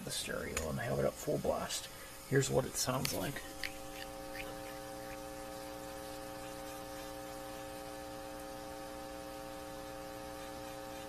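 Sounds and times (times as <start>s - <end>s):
constant hiss: 0.0s - 11.0s
electrical hum: 0.0s - 11.0s.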